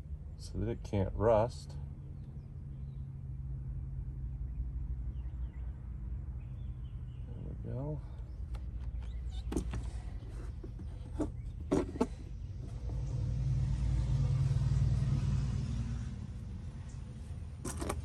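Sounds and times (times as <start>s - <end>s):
passing motor vehicle rumble: 0.0s - 18.0s.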